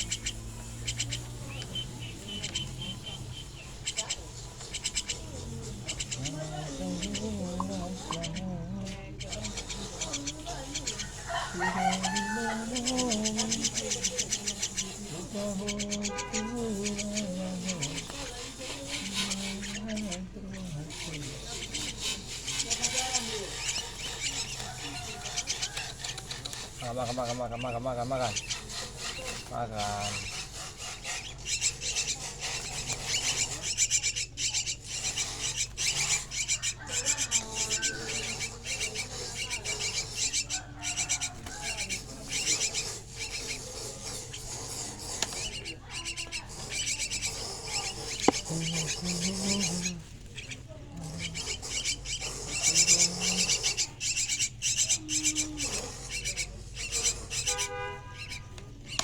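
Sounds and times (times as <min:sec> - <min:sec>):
bird chicks begging calls: 0:00.0 - 0:59.0
starling harsh chattering: 0:00.0 - 0:59.0.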